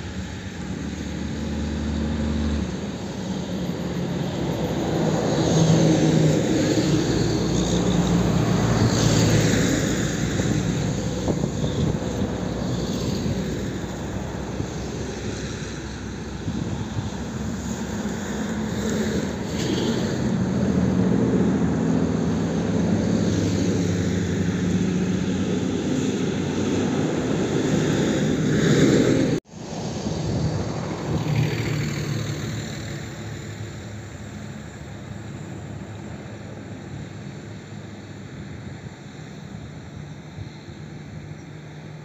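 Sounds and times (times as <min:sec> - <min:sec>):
jet engines humming and whining: 0:00.0 - 0:42.0
loud jet engine noise: 0:00.0 - 0:42.0.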